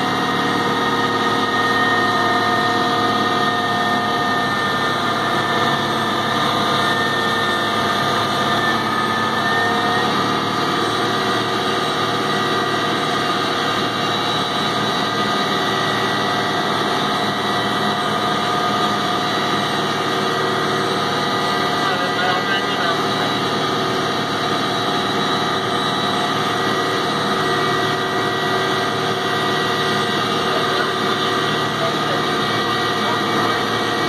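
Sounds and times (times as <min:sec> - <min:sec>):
steady whining tones: 0:00.0 - 0:34.0
tug engine running under load: 0:00.0 - 0:34.0.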